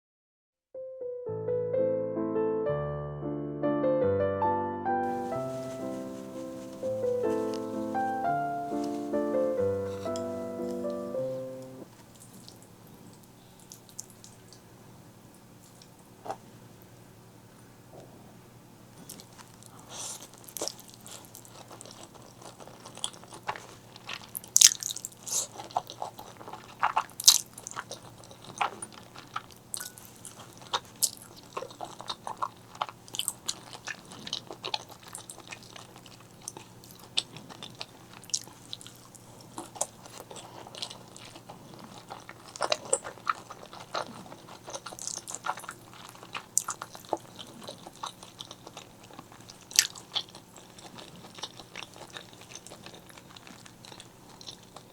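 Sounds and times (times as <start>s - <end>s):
crisp chewing crunches: 5.0s - 14.6s, 19.0s - 54.9s.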